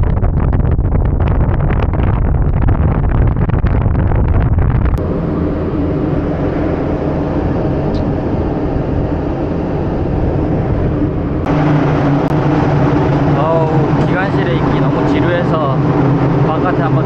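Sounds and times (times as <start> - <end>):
low steady hum: 0.0 - 17.0
engine room machinery drone: 0.2 - 17.0.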